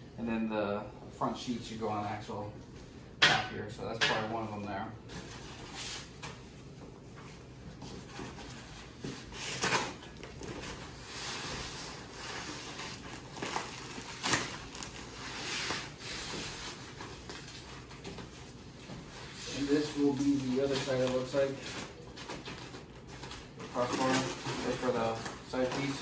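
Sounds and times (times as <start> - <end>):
rustling and scraping: 5.1 - 26.0.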